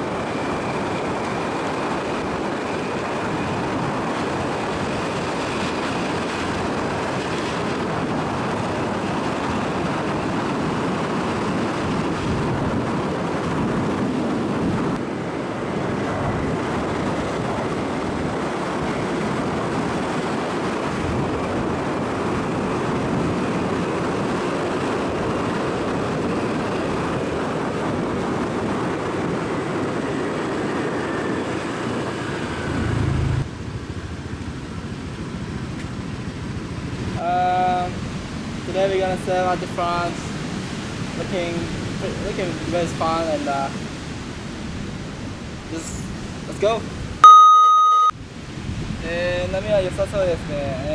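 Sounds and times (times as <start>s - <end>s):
wind and road rush: 0.0s - 47.4s, 48.1s - 50.9s.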